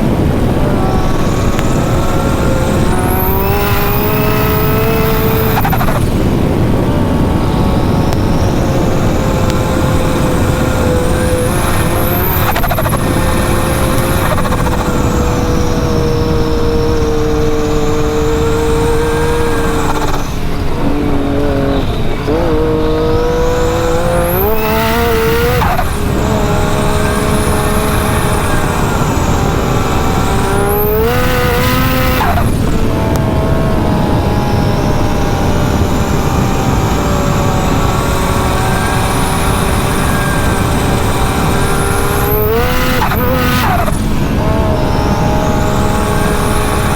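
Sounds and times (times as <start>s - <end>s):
high turbo whistle: 0.0s - 46.9s
side-by-side engine running hard: 0.0s - 46.9s.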